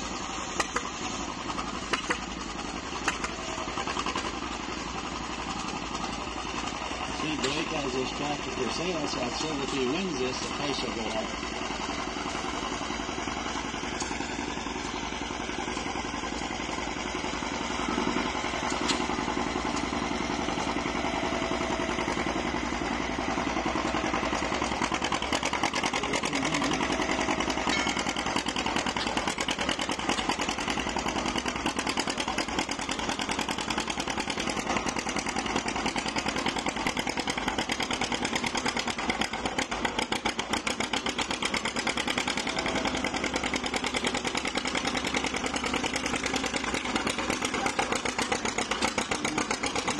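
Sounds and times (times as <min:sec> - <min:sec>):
tractor engine running under load: 0:00.0 - 0:49.9.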